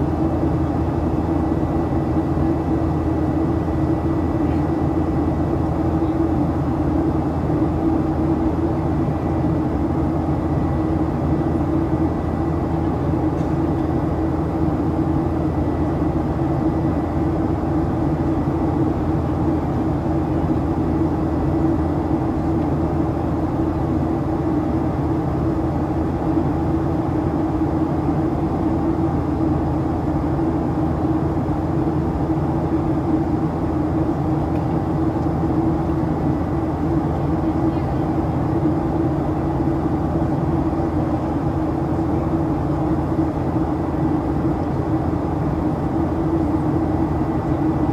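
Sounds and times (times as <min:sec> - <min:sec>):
jet engines droning in cabin: 0:00.0 - 0:47.9.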